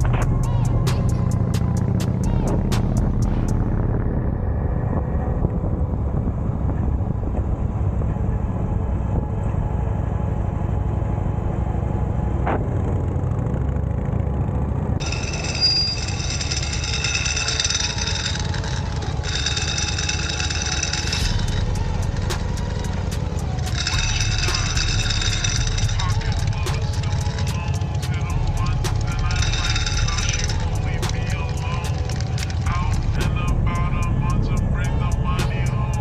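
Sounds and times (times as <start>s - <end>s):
motorcycle engine rumble: 0.0s - 36.0s.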